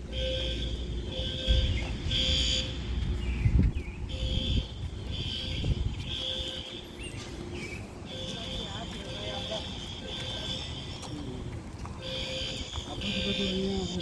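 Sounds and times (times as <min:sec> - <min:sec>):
fire alarm beeps: 0:00.0 - 0:03.2, 0:04.1 - 0:11.4, 0:12.0 - 0:14.0.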